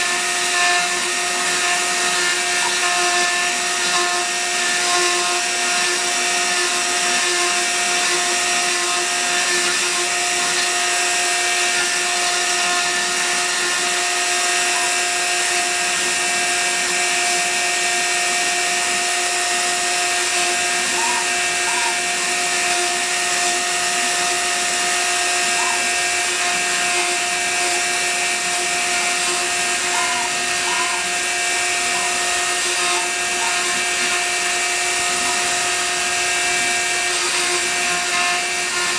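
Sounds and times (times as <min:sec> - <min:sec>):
cnc router spindle whine: 0:00.0 - 0:38.9.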